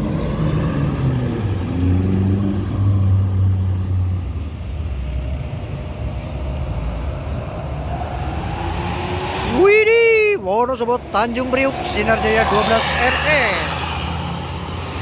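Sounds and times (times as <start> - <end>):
bus diesel engine drone: 0.0 - 15.0
road and tyre noise: 0.0 - 15.0.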